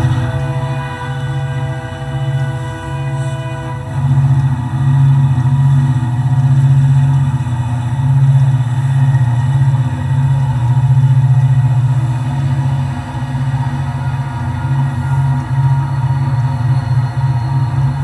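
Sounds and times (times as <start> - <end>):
model train humming: 0.0 - 18.0.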